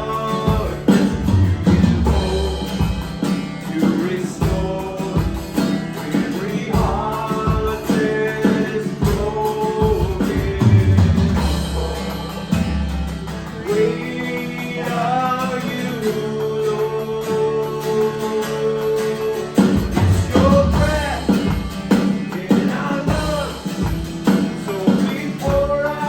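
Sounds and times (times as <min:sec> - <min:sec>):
drum kit: 0:00.0 - 0:26.0
guitar: 0:00.0 - 0:26.0
live worship band playing: 0:00.0 - 0:26.0
person singing: 0:00.0 - 0:26.0.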